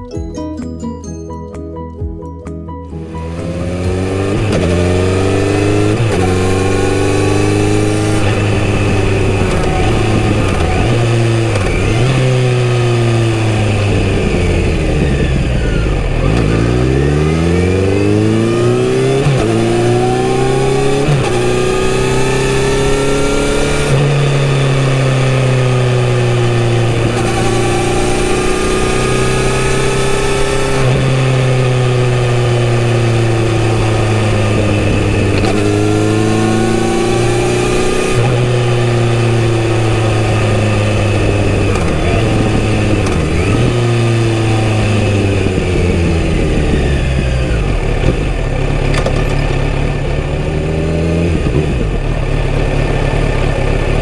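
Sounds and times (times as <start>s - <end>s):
motorcycle engine revving: 2.9s - 54.0s.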